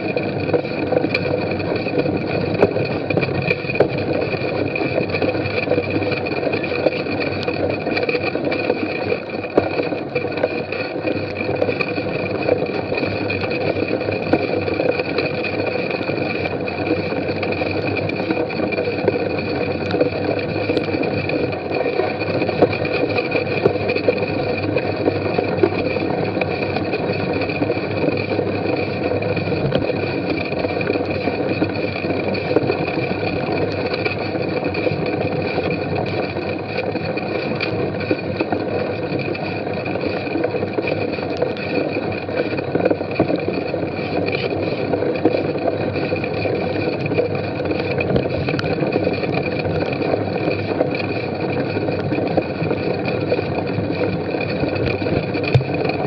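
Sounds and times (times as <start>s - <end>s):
bike rumble and rattle: 0.0s - 56.0s.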